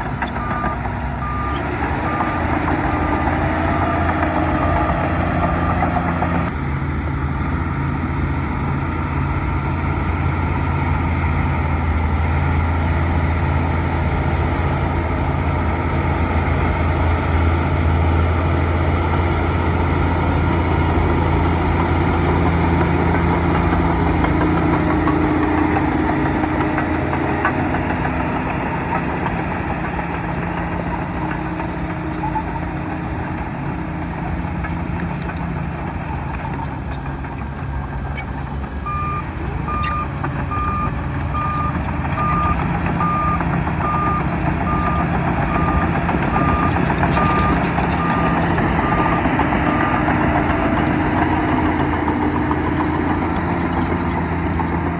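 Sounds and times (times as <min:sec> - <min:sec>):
bulldozer diesel engine: 0:00.0 - 0:54.9.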